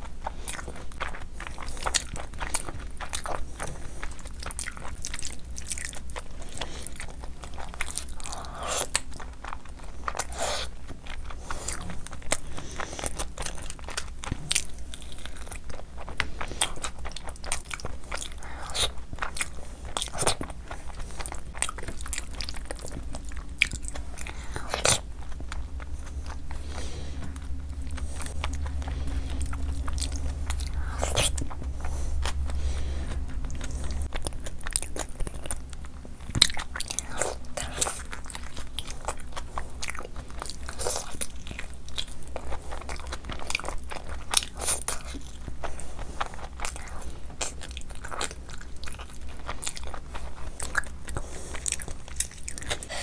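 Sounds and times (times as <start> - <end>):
chewing with wet smacks: 0.0 - 53.0.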